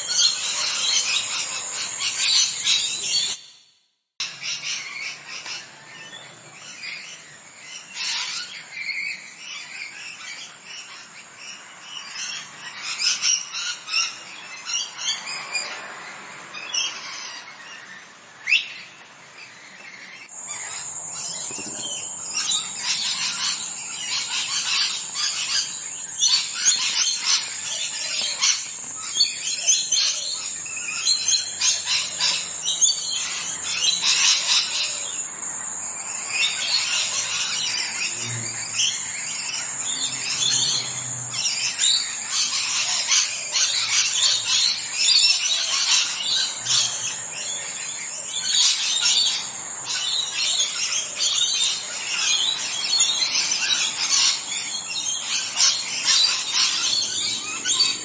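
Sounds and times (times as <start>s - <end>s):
parrots chirping: 0.0s - 3.6s, 4.2s - 58.0s.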